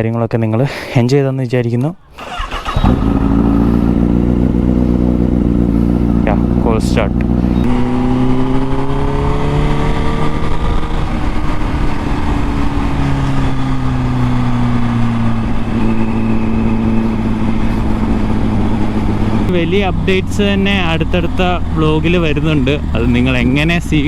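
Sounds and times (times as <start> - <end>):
motorcycle engine idling: 2.0 - 7.7, 10.2 - 24.0.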